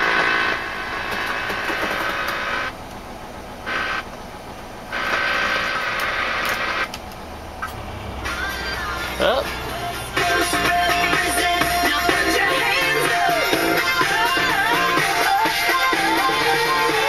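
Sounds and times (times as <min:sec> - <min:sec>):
car radio static hissing: 0:00.0 - 0:02.8, 0:03.6 - 0:17.0.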